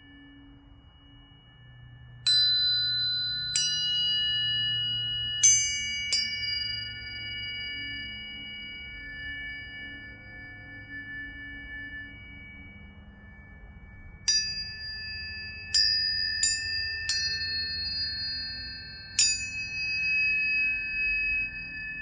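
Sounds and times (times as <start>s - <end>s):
tuning forks struck and ringing: 0.0s - 22.0s.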